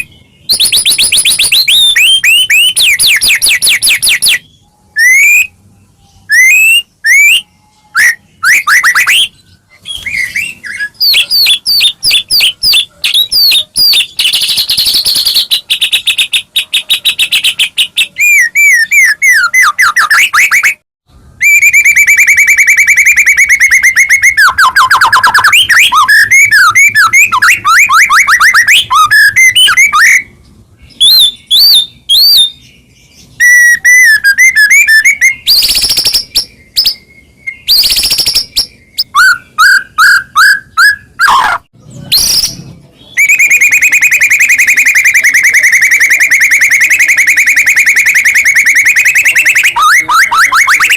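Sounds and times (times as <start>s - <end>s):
songbird whistling and trilling: 0.0s - 50.9s.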